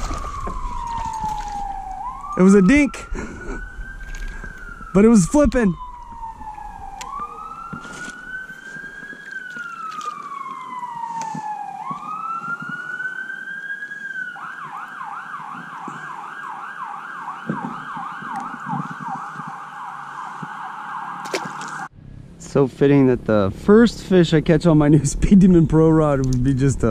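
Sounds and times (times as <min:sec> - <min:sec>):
siren wailing and yelping: 0:00.0 - 0:21.9.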